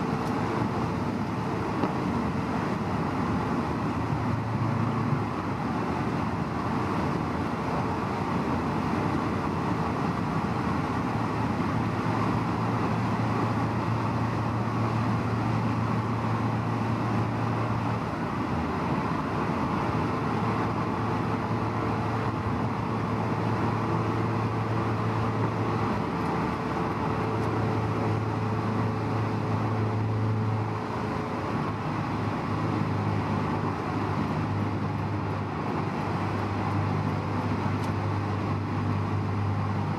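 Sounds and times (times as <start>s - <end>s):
car engine drone: 0.0s - 39.9s
tyre and road noise: 0.0s - 39.9s.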